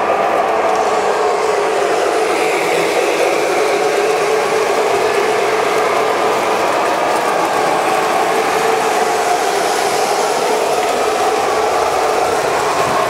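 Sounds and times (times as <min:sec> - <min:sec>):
toy trains whirring on metal track: 0:00.0 - 0:13.0.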